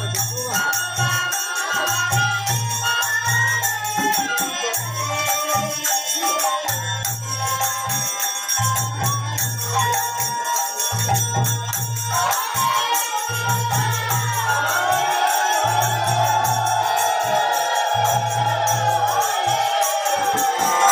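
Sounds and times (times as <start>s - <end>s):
hand cymbals jingling: 0.0s - 20.9s
rhythmic percussion: 0.0s - 20.9s.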